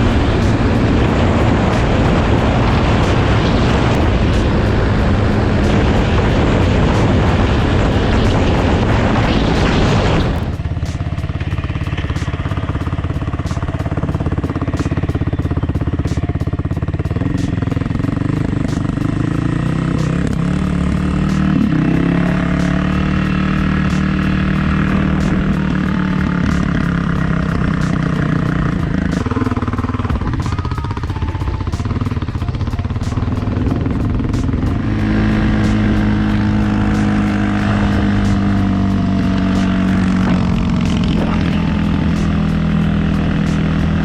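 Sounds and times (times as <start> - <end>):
dirt bike engine running: 0.0 - 44.0
wind rush: 0.0 - 44.0.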